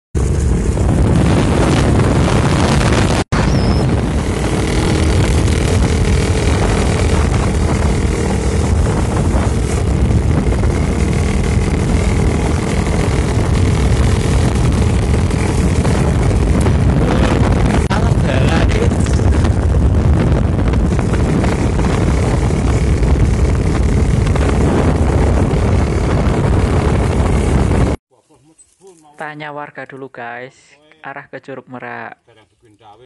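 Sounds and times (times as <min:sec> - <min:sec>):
motorcycle engine running: 0:00.2 - 0:28.0
wind rumble on microphone: 0:00.2 - 0:28.0.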